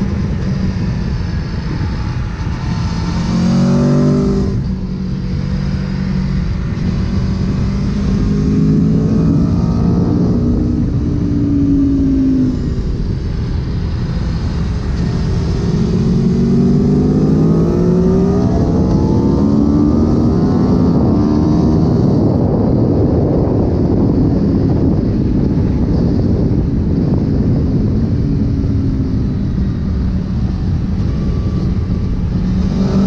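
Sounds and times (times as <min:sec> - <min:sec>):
motorcycle engine revving: 0:00.0 - 0:33.0
wind rushing over microphone: 0:00.0 - 0:33.0.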